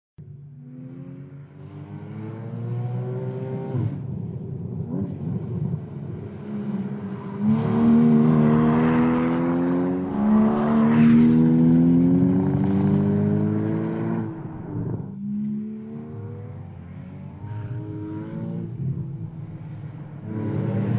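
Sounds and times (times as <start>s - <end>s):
car engine accelerating: 0.6s - 20.9s.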